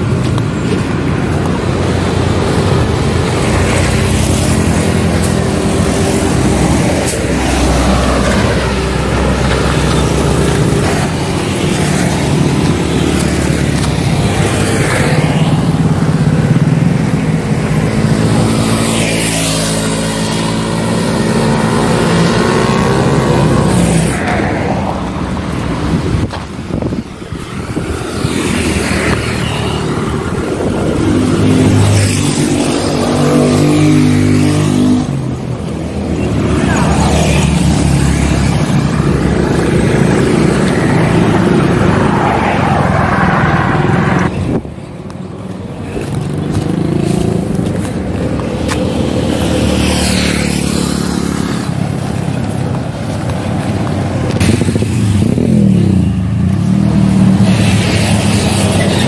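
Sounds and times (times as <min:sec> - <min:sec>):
motorcycles passing: 0:00.0 - 0:59.0
road traffic passing by: 0:00.0 - 0:59.0.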